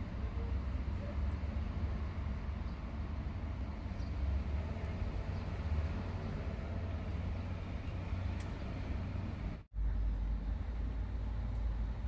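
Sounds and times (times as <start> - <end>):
urban background rumble: 0.0 - 12.0.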